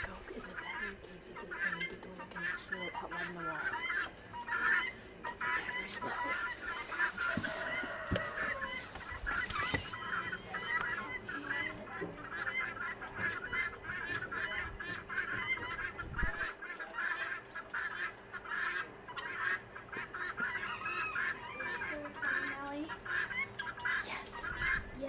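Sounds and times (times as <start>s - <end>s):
guineafowl calling: 0.0s - 25.0s.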